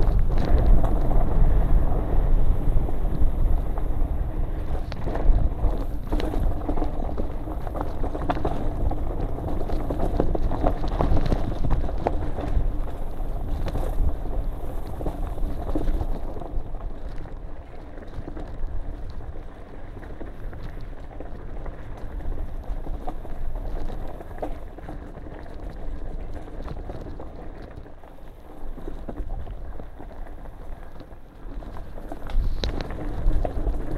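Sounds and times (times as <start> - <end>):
bike rattling and knocking: 0.0 - 33.9
tyres crunching over gravel: 0.0 - 33.9
wind rumbling on microphone: 0.0 - 33.9.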